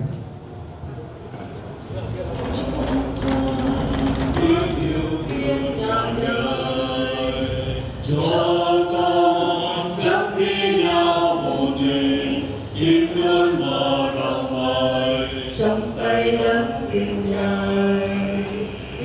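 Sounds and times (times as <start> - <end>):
church choir singing a hymn: 3.1 - 19.0.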